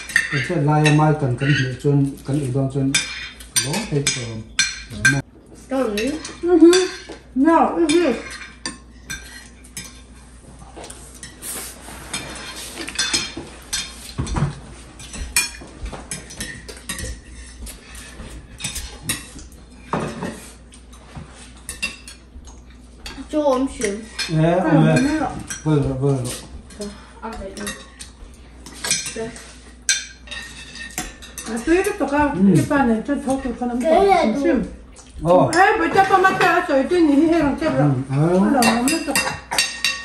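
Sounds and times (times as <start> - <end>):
cutlery clinking on plates: 0.0 - 5.2, 6.0 - 11.4, 12.0 - 26.8, 27.5 - 33.5, 37.3 - 40.0.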